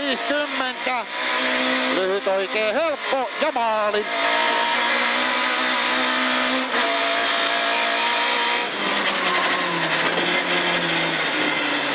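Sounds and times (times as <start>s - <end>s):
rally car engine revving: 0.0s - 11.9s.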